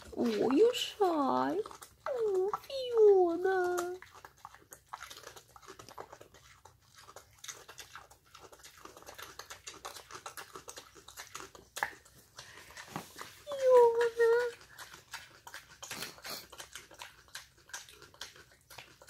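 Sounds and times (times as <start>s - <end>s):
pig crunching a carrot: 0.0s - 19.0s.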